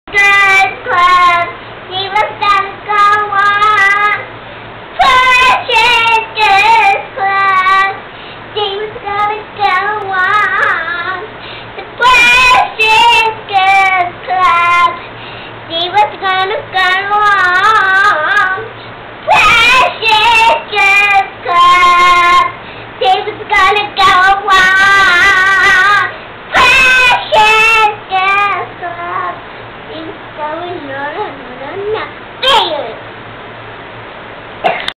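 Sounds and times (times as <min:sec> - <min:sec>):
girl singing unaccompanied: 0:00.1 - 0:33.1.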